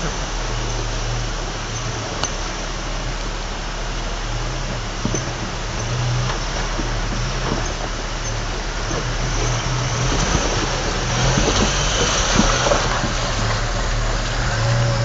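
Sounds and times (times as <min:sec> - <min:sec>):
vehicle engine running: 0:00.0 - 0:15.0
water rushing and splashing: 0:00.0 - 0:15.0.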